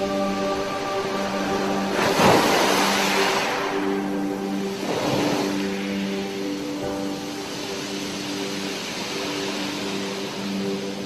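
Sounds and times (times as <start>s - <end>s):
soft music of held notes: 0.0s - 11.0s
ocean wave washing in: 0.6s - 11.0s.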